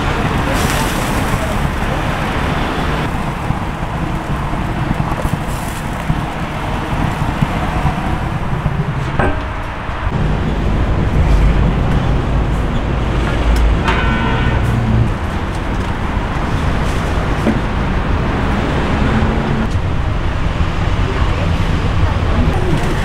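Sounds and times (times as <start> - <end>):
low rumbling: 0.0 - 23.0.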